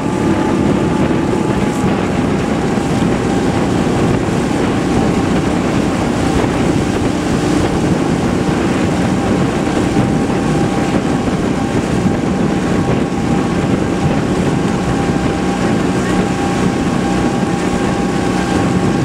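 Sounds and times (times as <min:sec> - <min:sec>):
outboard motor running: 0:00.0 - 0:19.0
wind buffeting microphone: 0:00.0 - 0:19.0.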